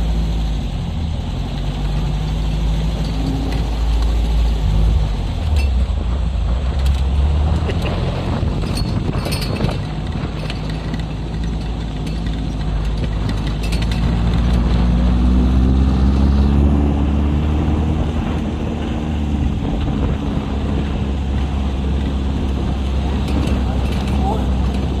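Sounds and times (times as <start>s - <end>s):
vehicle engine accelerating: 0.0s - 25.0s.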